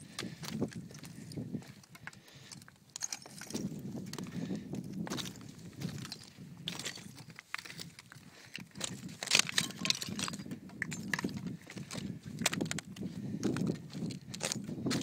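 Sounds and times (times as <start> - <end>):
footsteps on loose rock slabs: 0.0 - 15.0.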